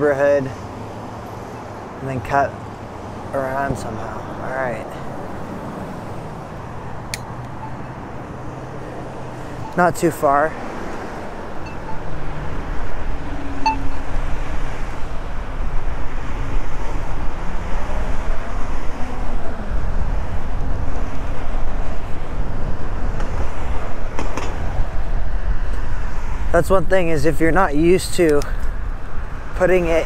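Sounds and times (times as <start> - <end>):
bicycle road noise: 0.0 - 30.0
wind rushing over microphone: 2.8 - 30.0.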